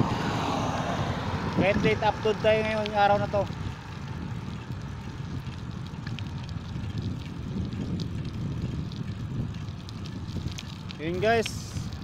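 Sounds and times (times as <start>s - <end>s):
bicycle road rumble: 0.0s - 12.0s
wind buffeting microphone: 0.0s - 12.0s.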